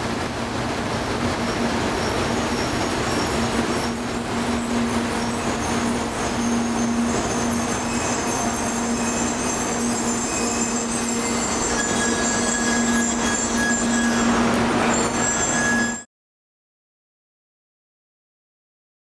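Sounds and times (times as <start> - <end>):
train braking to a stop: 0.0 - 16.1
thin high squeal: 0.2 - 16.1.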